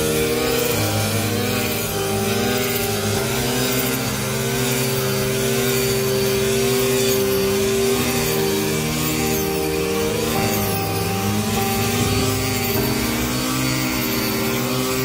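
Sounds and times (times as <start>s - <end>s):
harvester engine droning: 0.0s - 15.0s.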